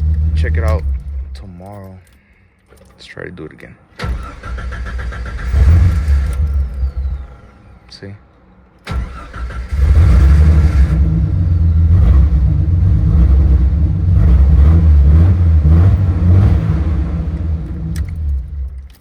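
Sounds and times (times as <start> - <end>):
car engine idling: 0.0 - 1.8, 3.9 - 19.0.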